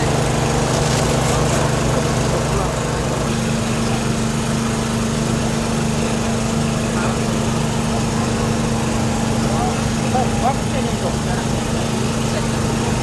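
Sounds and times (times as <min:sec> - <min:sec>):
small engine running steadily: 0:00.0 - 0:13.0.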